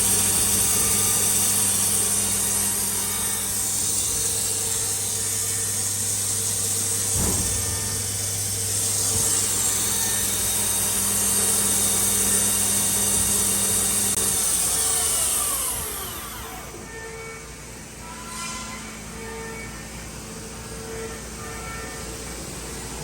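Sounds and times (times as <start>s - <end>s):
machine mechanical hum with hiss: 0.0s - 23.0s.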